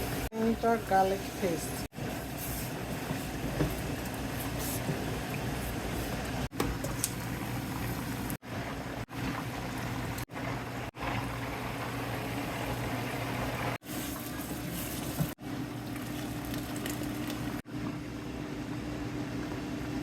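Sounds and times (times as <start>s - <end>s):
stew bubbling and sizzling: 0.0s - 18.1s.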